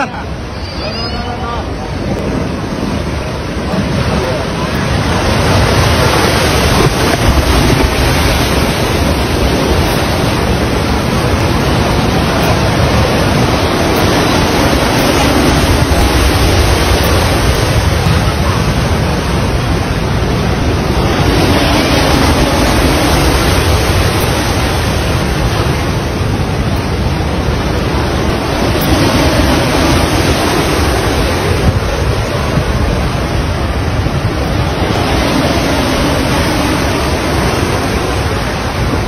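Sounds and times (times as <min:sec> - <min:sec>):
water crashing and churning: 0:00.0 - 0:39.0
wind buffeting microphone: 0:00.0 - 0:39.0.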